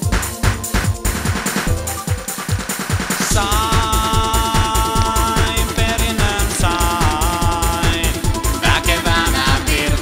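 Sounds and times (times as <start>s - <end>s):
music with fast bass drum beat: 0.0s - 10.0s.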